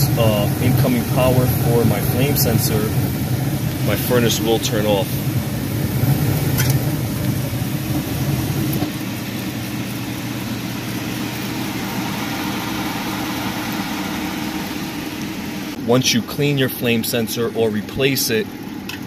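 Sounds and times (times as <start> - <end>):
motor hum: 0.0 - 15.8
gas furnace running: 0.0 - 19.0.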